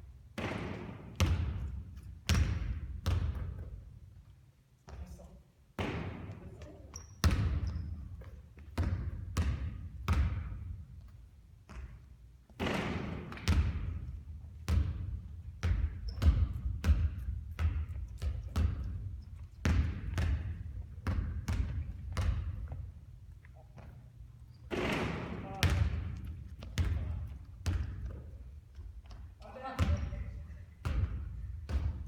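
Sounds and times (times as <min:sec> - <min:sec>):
basketball bouncing on court: 0:00.4 - 0:04.0, 0:04.8 - 0:05.2, 0:05.8 - 0:32.0.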